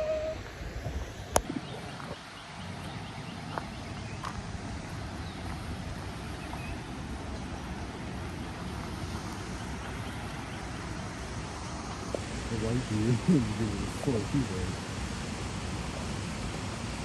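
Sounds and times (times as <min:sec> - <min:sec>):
small waterfall rushing: 0:00.0 - 0:17.0
wind rumble on microphone: 0:00.0 - 0:17.0.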